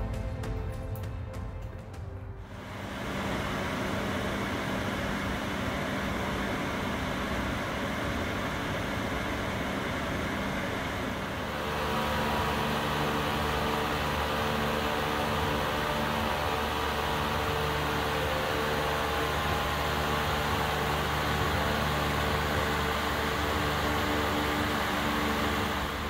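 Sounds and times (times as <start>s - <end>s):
blower fan rushing air: 0.0s - 26.0s
fan hum: 0.0s - 26.0s.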